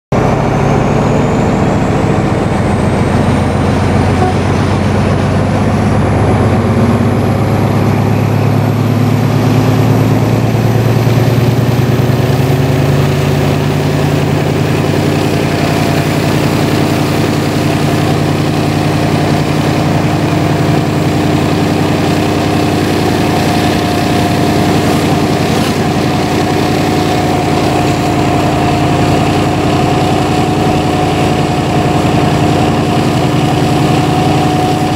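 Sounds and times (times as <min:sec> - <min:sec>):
diesel locomotive engine running: 0:00.1 - 0:34.9.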